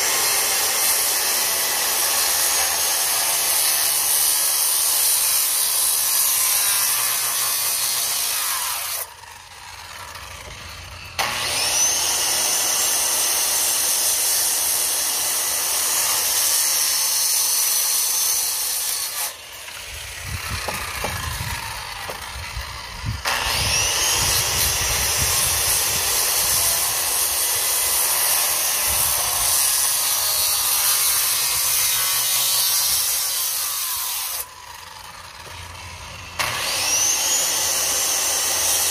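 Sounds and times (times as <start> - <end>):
power saw cutting wood: 0.0 - 38.9.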